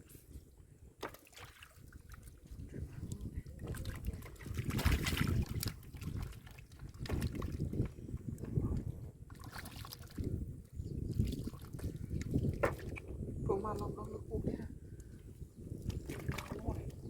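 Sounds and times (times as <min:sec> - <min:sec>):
muddy water sloshing: 0:01.0 - 0:17.0.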